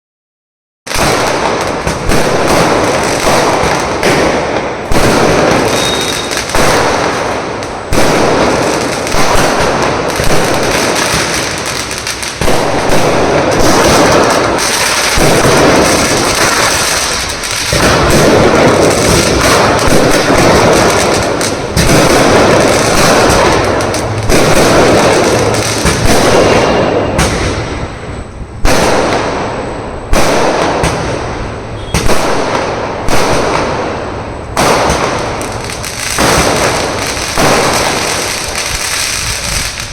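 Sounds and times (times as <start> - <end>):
fireworks bangs and crackling: 0.8 - 39.9.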